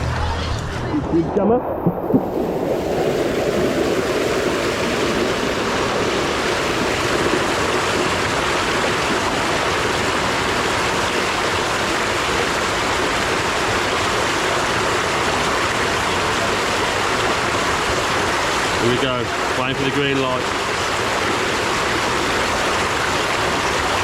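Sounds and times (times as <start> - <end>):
flowing water: 0.0 - 24.0.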